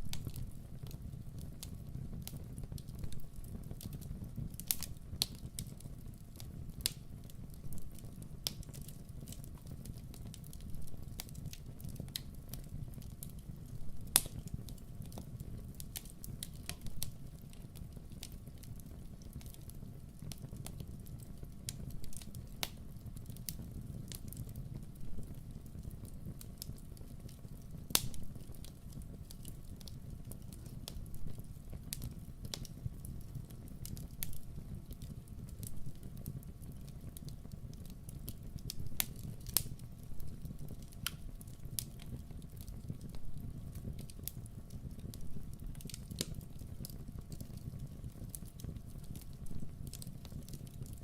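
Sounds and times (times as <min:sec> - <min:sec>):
campfire crackles and pops: 0:00.0 - 0:51.0
low rumble of flames: 0:00.0 - 0:51.0.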